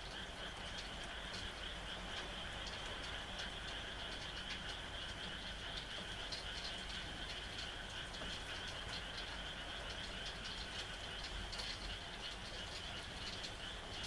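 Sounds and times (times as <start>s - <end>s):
rain hiss: 0.0s - 14.0s.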